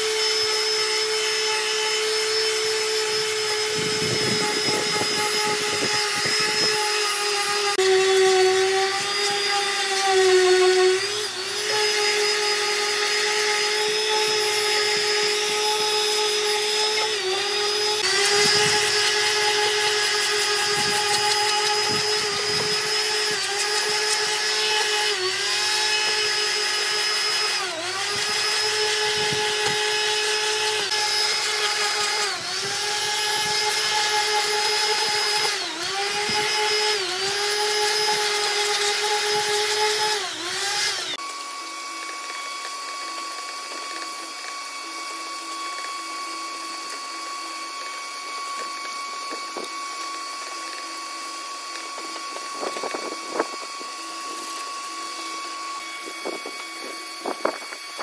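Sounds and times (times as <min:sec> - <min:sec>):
power tool motor whining: 0:00.0 - 0:58.0
high steady machine hum: 0:01.8 - 0:58.0.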